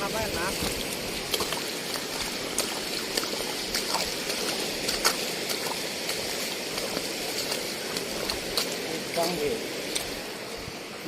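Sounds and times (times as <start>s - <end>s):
seawater washing among rocks: 0.0s - 11.0s.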